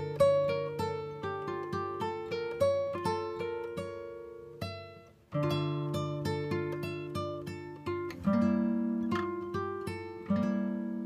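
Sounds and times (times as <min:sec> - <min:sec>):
acoustic guitar picking: 0:00.0 - 0:11.0.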